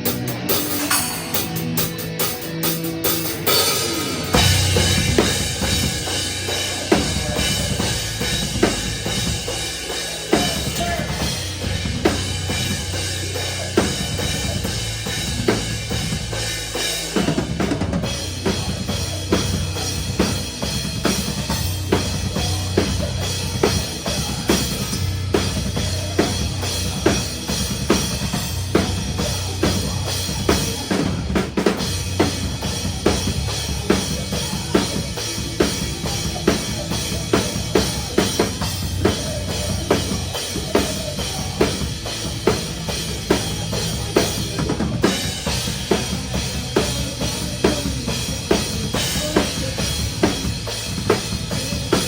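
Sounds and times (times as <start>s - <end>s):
heavy band playing: 0.0s - 52.0s
pounding bass drum: 0.0s - 52.0s.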